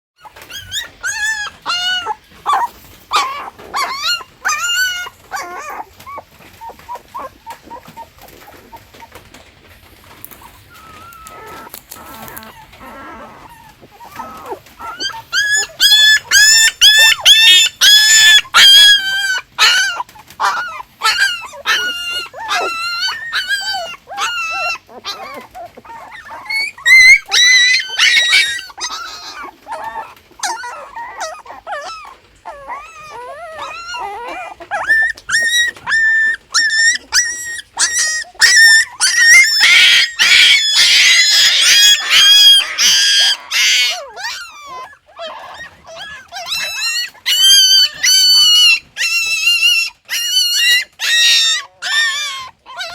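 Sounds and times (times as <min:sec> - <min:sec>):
newborn puppies crying: 0:00.2 - 0:52.9.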